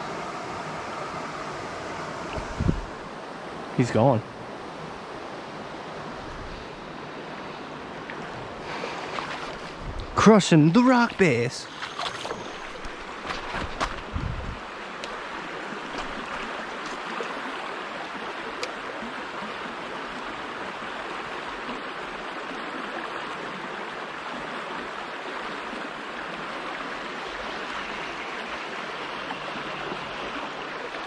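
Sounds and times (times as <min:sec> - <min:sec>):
creek water rippling over rocks: 0:00.0 - 0:31.0.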